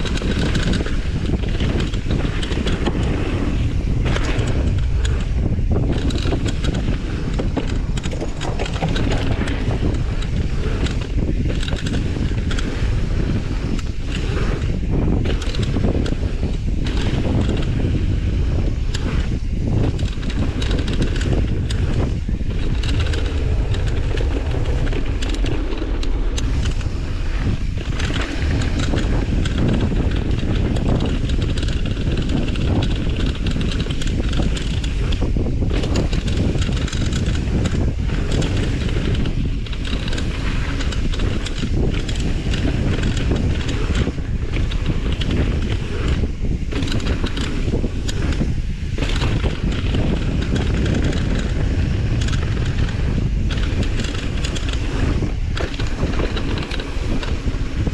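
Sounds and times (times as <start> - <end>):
bike tyre noise and rattle: 0.0 - 57.9
wind buffeting microphone: 0.0 - 57.9.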